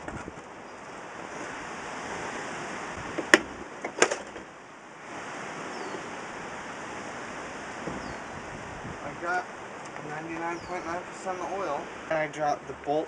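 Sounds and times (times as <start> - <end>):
wind rush on microphone: 0.0 - 12.1.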